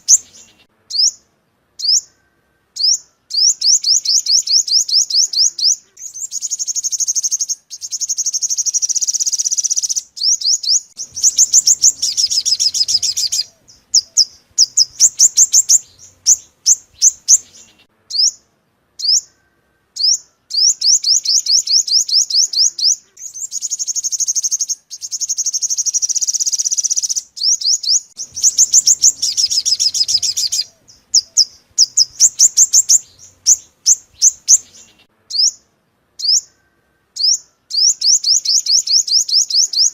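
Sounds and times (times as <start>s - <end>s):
sunbird song: 0.0s - 39.9s.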